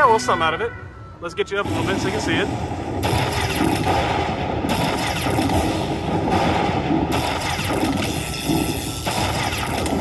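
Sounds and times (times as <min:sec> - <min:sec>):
slot machine electronic zaps and booms: 0:01.6 - 0:10.0.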